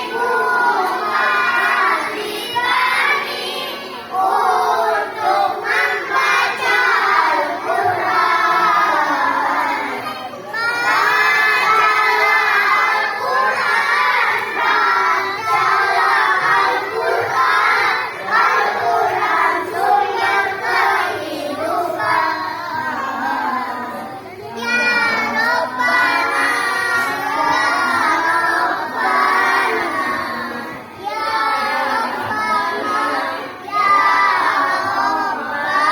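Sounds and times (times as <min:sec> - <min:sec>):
children singing together: 0:00.0 - 0:35.9.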